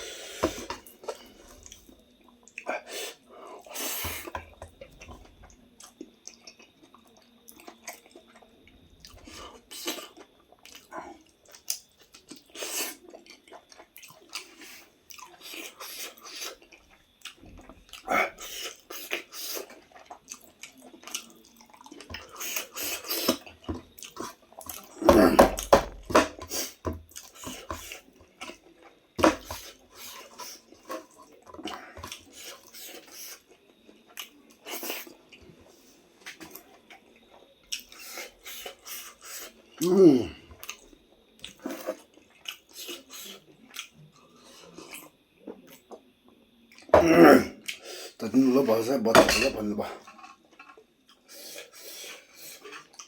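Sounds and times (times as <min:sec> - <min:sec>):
person chewing food: 0:00.0 - 0:46.9, 0:50.0 - 0:53.0.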